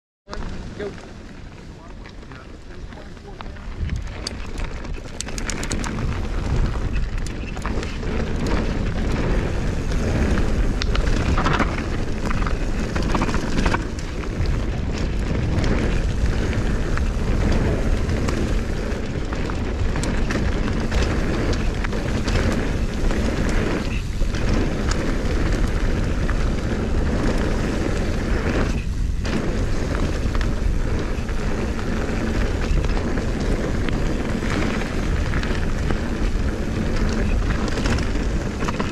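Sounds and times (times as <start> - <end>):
bike rattling and clicking: 0.3 - 38.9
tyres rumbling on gravel: 0.3 - 38.9
wind on microphone: 0.3 - 38.9.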